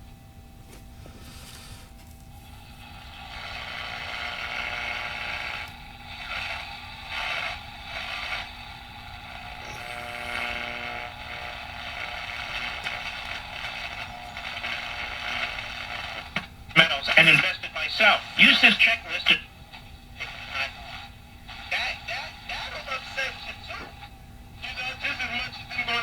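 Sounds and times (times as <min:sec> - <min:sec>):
radio static and hiss: 0:01.0 - 0:26.0.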